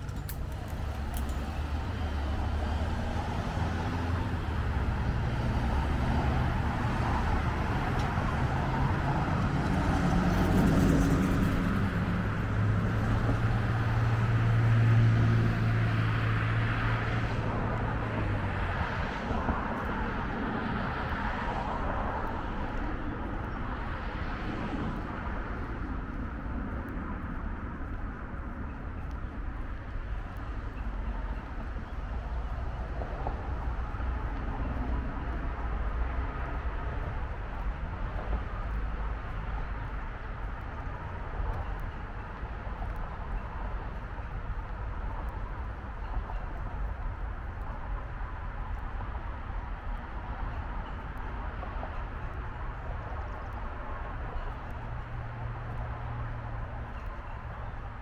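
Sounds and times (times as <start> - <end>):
passing cars: 0.0 - 58.0
vehicle engine hum: 0.0 - 58.0.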